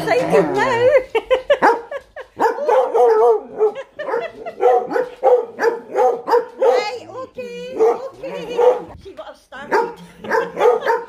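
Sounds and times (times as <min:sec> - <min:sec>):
dogs barking and yipping: 0:00.0 - 0:09.0, 0:09.7 - 0:11.0.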